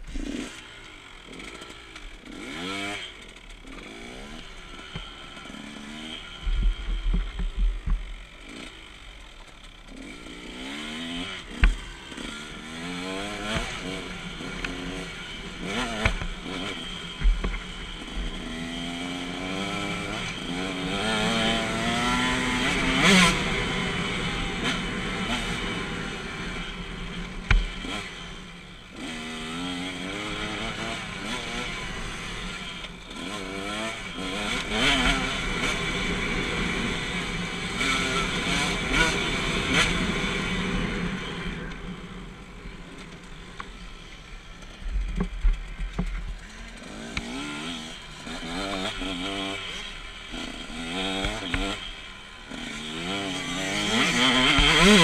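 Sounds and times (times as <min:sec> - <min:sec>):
two-stroke motorbike engine revving: 0:00.0 - 0:55.0.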